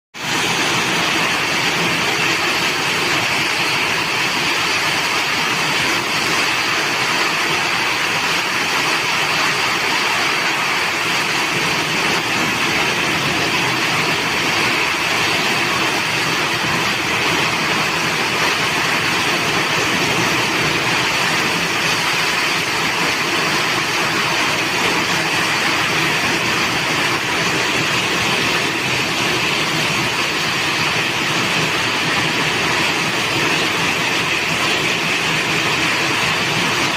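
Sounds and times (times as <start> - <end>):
heavy rain downpour: 0.1 - 36.9.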